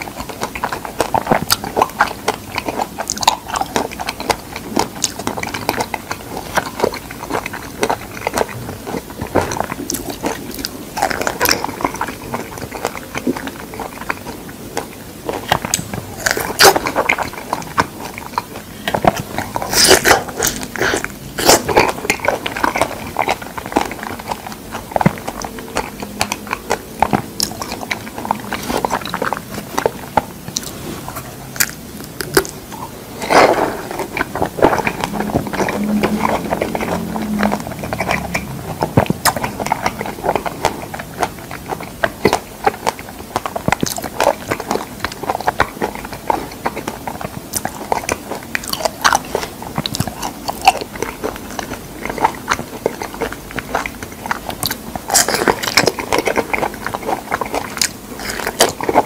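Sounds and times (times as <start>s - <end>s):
wet squelchy chewing: 0.0s - 59.0s.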